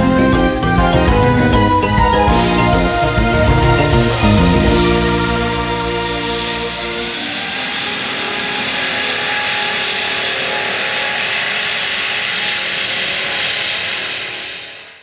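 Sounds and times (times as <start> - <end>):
loud jet engine rush: 0.0 - 15.0.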